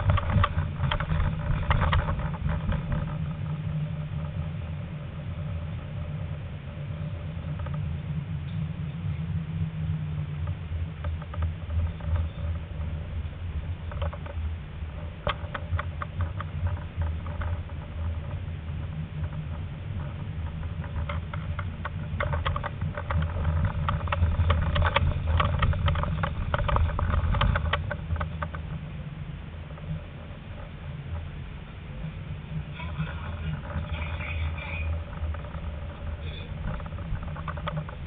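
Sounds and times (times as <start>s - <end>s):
wheels clicking and squeaking on track: 0.0s - 9.2s, 10.4s - 29.0s, 29.6s - 38.0s
tram humming: 0.0s - 38.0s.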